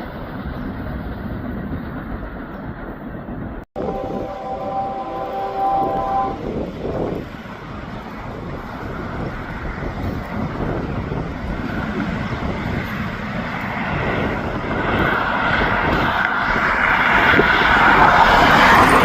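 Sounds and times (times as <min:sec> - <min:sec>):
diesel freight train approaching: 0:00.0 - 0:19.0
train wheel noise: 0:00.0 - 0:19.0.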